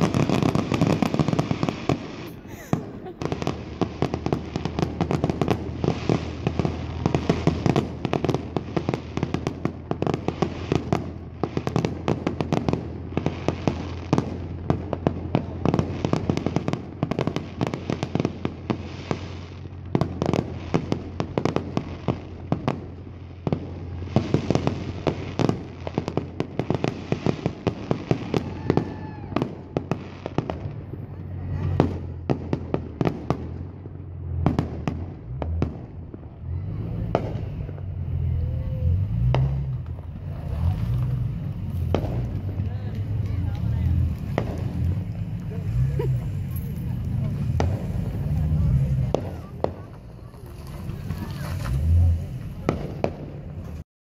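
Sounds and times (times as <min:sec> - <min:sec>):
fireworks bursts and crackling: 0:00.0 - 0:53.8.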